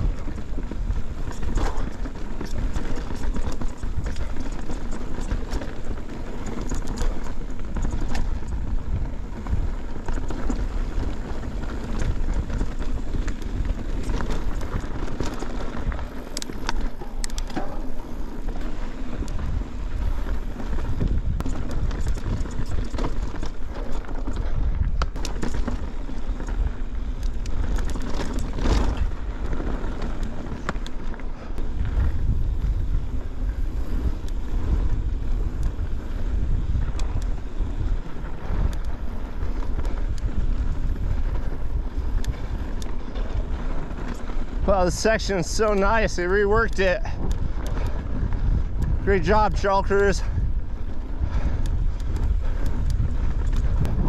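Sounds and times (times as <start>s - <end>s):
bike knocking and rattling: 0.0s - 54.0s
bike tyres on dirt: 0.0s - 54.0s
wind buffeting microphone: 0.0s - 54.0s.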